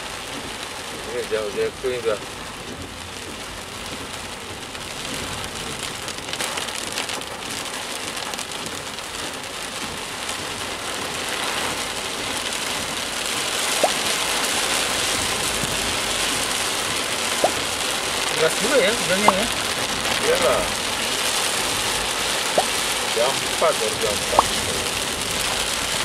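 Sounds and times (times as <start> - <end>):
heavy rain on car: 0.0 - 26.0.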